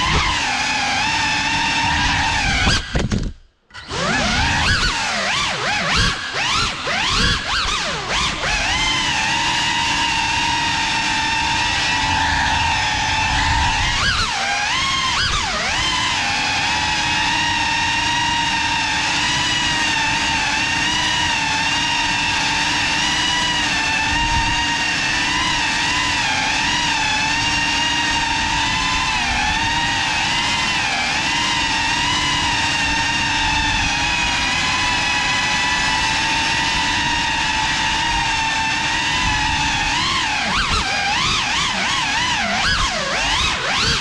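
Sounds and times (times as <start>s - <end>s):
quadcopter motors whining: 0.0s - 44.0s.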